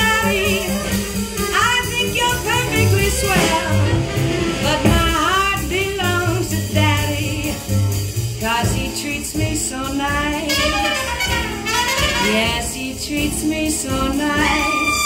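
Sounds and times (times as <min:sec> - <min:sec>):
jazz band music: 0:00.0 - 0:15.0.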